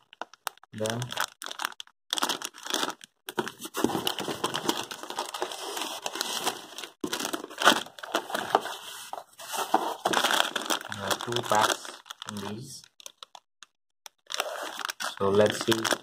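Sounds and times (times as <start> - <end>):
plastic bags crinkling: 0.0 - 13.4, 14.2 - 16.0.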